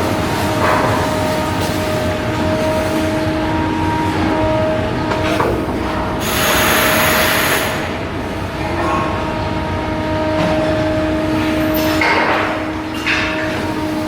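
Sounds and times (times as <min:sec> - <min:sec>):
machinery two-tone hum: 0:00.0 - 0:14.0.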